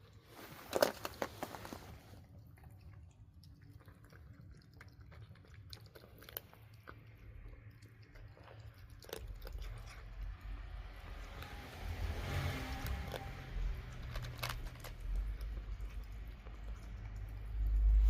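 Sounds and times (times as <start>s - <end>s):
cat chewing food: 0.0s - 18.0s.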